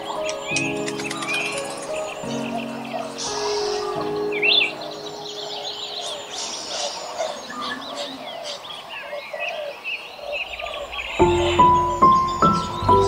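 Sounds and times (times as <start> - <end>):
many birds chirping: 0.0 - 13.0.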